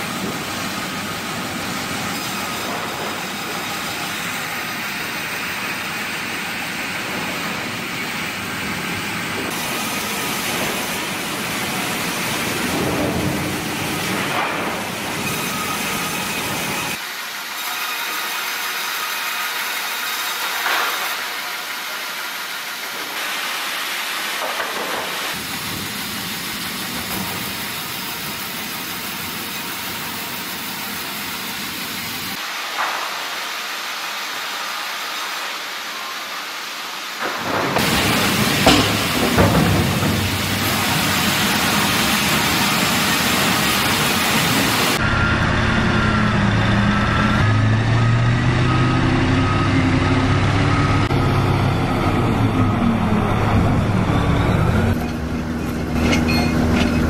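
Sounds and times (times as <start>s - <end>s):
sawmill machine hissing noise: 0.0s - 48.2s.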